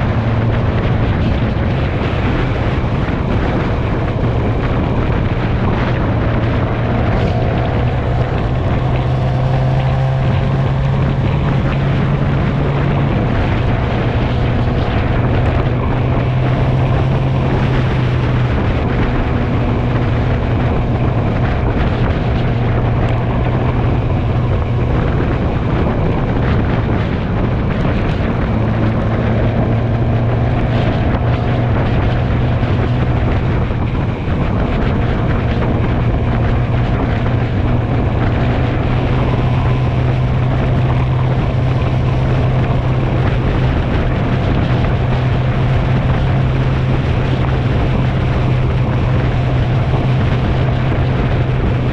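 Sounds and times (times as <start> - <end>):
motorcycle engine hum: 0.0 - 51.9
wind rush on microphone: 0.0 - 51.9.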